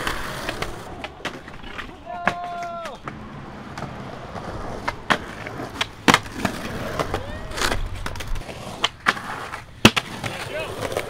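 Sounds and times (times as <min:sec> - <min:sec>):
skateboard clacks: 0:00.0 - 0:11.0
skateboard wheels rumbling on concrete: 0:00.0 - 0:11.0.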